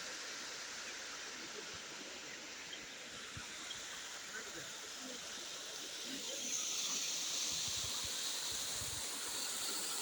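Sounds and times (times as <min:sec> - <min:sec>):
rushing water hiss: 0:00.0 - 0:10.0.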